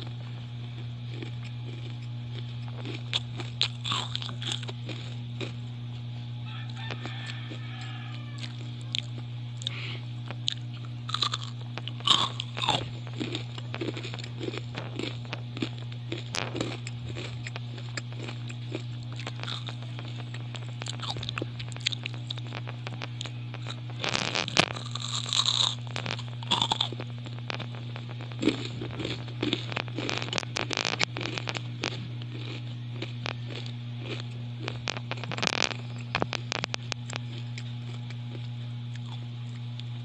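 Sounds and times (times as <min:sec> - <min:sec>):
crunching puffed rice cake: 0:00.0 - 0:40.0
steady low hum: 0:00.0 - 0:40.0.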